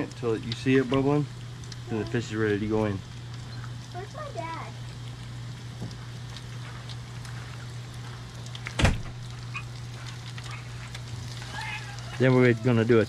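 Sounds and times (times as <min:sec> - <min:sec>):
frying oil crackling: 0:00.0 - 0:13.0.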